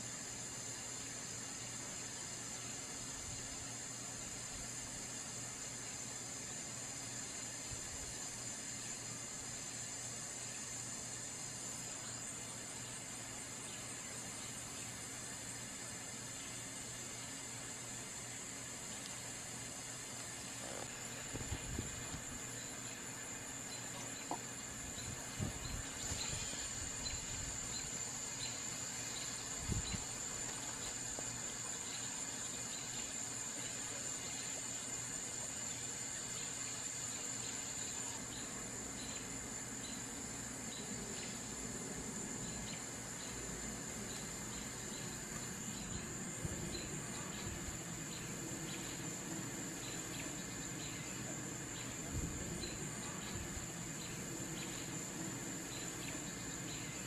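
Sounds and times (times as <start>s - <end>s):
insects trilling: 0.0s - 57.0s
soft insect chirp: 0.0s - 57.0s.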